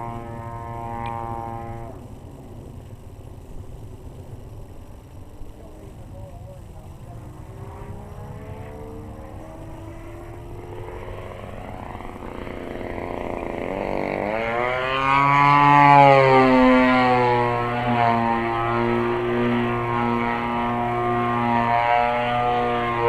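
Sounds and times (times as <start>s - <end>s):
model plane engine passing: 0.0s - 23.0s.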